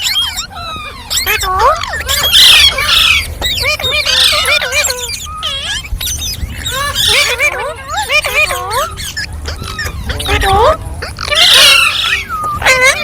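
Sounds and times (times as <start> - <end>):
parrots chattering and squawking: 0.0 - 13.0.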